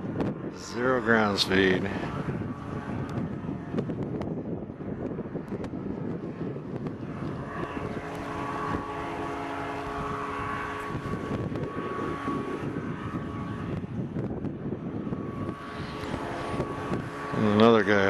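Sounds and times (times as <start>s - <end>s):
engine and propeller droning: 0.0s - 18.0s
gusty wind on microphone: 0.0s - 18.0s.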